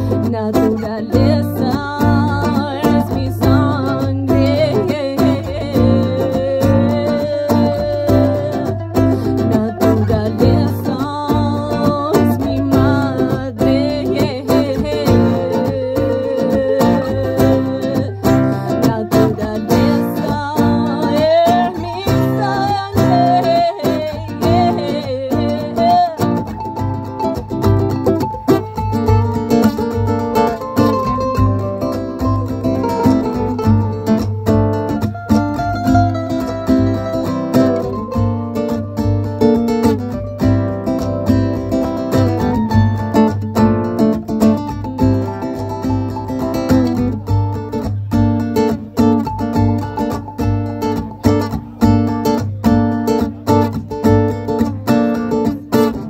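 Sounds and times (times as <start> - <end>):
acoustic guitar: 0.0 - 56.0
cajon beat: 0.0 - 56.0
electric guitar: 0.0 - 56.0.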